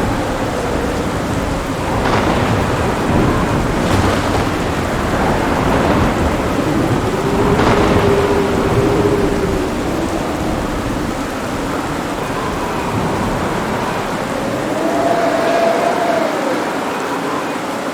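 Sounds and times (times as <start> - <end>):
sharp thunder cracks: 0.0 - 14.4
low rolling thunder: 0.0 - 17.1
heavy rain: 0.0 - 17.9.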